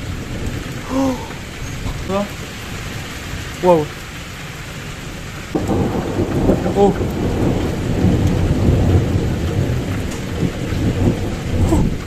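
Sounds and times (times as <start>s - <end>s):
thunder rumbling: 0.0s - 4.2s, 4.8s - 12.0s
heavy rain downpour: 0.0s - 12.0s.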